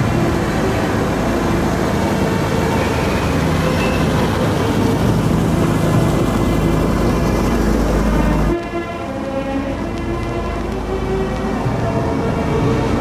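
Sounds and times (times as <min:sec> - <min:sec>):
car passing: 0:00.0 - 0:13.0
truck diesel engine passing: 0:00.0 - 0:13.0.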